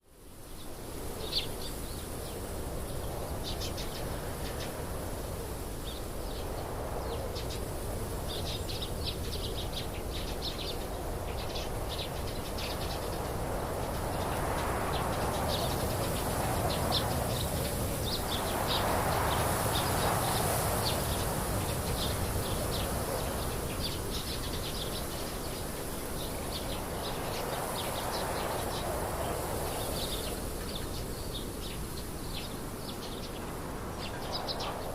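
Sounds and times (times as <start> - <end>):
small birds chirping: 0.4 - 34.9.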